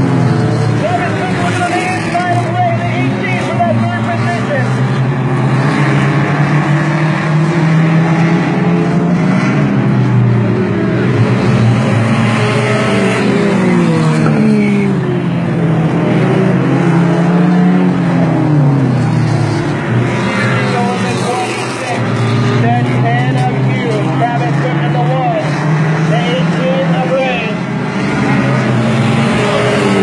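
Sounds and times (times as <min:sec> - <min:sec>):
race car engines droning: 0:00.0 - 0:30.0.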